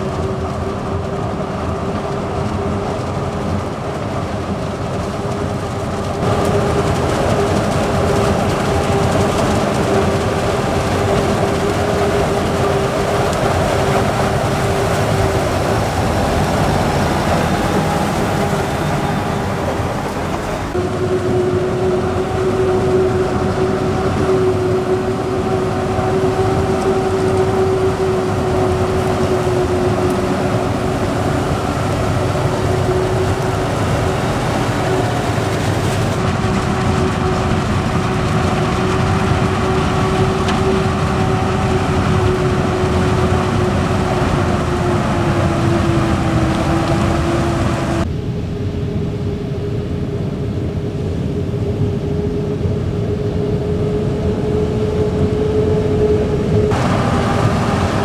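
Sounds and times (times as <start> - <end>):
forage harvester running: 0.0 - 48.0, 56.7 - 58.0
tractors: 0.0 - 48.1, 56.6 - 58.0.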